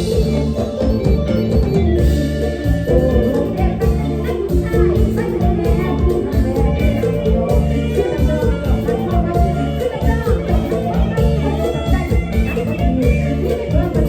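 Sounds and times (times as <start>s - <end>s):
live band music with driving beat: 0.0s - 14.0s.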